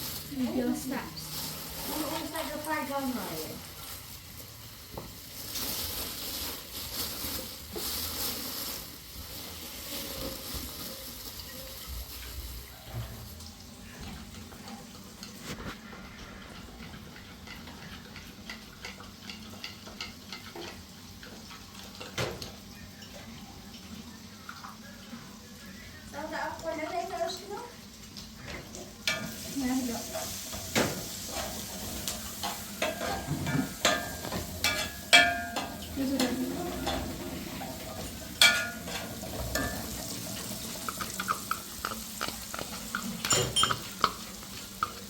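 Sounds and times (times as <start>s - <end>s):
food sizzling in a pan: 0.0s - 45.0s.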